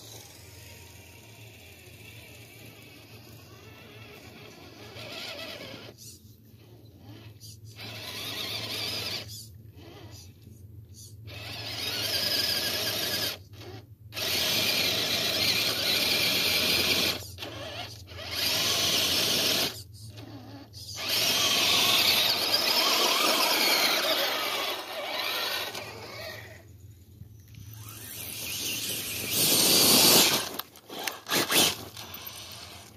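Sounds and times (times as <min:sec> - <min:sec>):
electric motor and gears whining: 0:00.0 - 0:10.3, 0:11.2 - 0:32.9.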